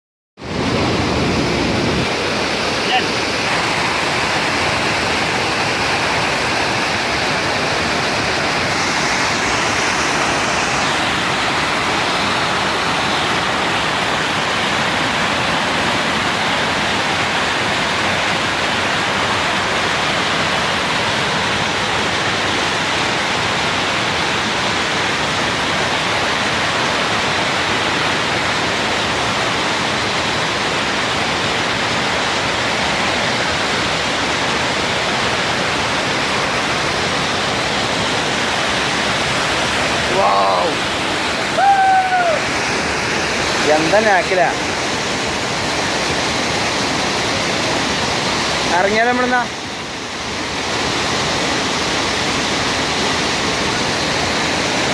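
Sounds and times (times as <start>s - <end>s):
waterfall rushing: 0.4s - 54.9s.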